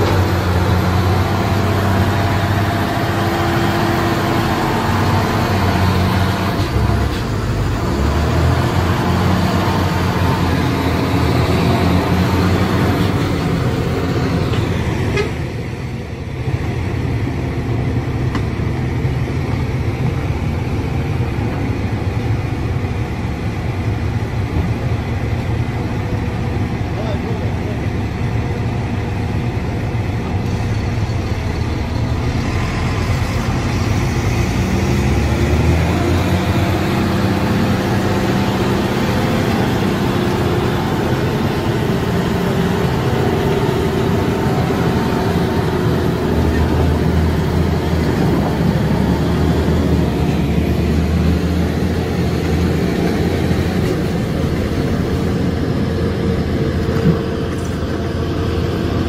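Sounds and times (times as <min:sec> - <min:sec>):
vehicle engine running under load: 0:00.0 - 0:59.0.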